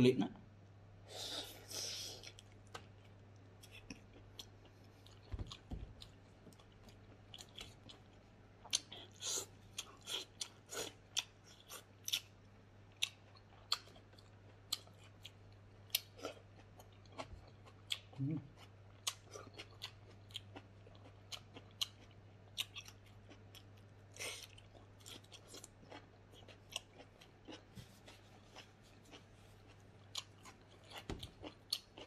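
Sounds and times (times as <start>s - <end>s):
faint low hum: 0.0s - 32.0s
person chewing food: 1.4s - 32.0s.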